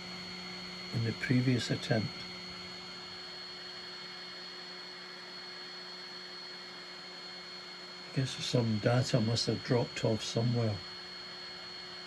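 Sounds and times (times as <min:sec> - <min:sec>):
cooling fans humming: 0:00.0 - 0:12.0.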